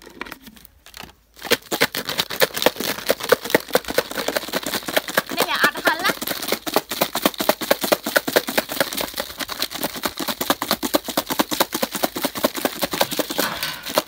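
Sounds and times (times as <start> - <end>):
chicken wings rattling in plastic pitcher: 1.4 - 14.0.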